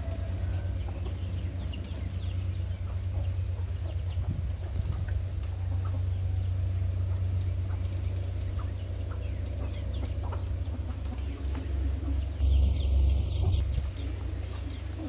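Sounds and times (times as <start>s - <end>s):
steady low hum: 0.0s - 15.0s
young roosters clucking: 0.0s - 15.0s.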